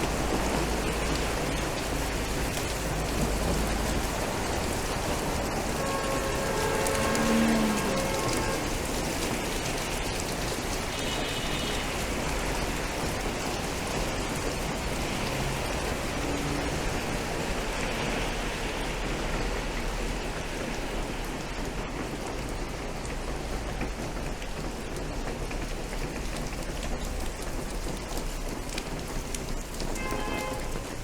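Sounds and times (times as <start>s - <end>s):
rain on street: 0.0s - 31.0s.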